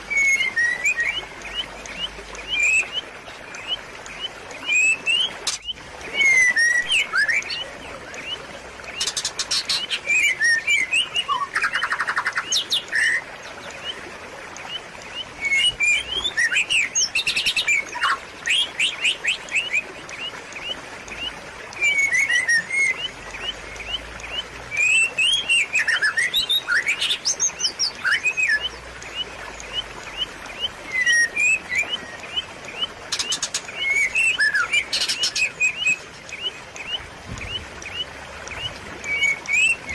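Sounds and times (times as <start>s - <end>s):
songbird chirps and trills: 0.0s - 39.9s
trickling water: 0.0s - 39.9s.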